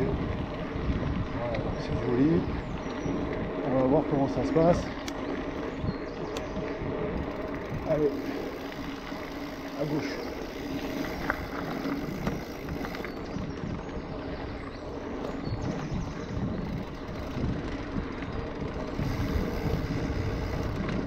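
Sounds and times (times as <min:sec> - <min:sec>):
bike rattling and clicking: 0:00.0 - 0:21.0
bike tyres rolling on dirt: 0:00.0 - 0:21.0
wind rumble on microphone: 0:00.0 - 0:21.0.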